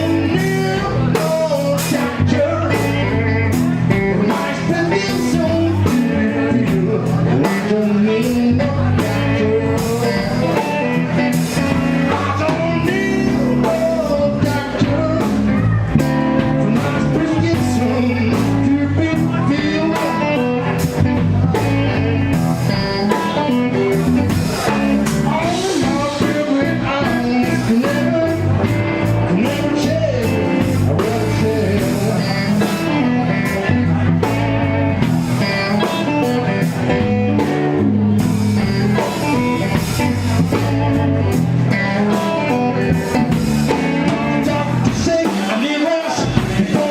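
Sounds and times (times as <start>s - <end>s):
bass guitar: 0.0s - 46.9s
electric guitar bending notes: 0.0s - 46.9s
steady drum beat: 0.0s - 46.9s.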